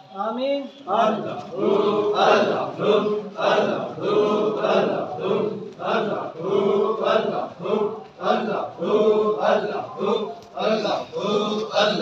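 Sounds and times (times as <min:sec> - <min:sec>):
men chanting together: 0:00.9 - 0:12.0.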